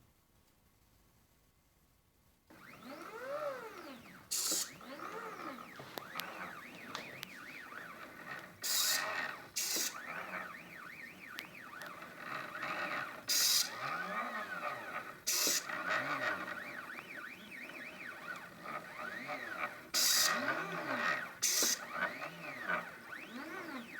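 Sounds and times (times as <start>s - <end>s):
stepper motors whining: 2.5s - 23.9s.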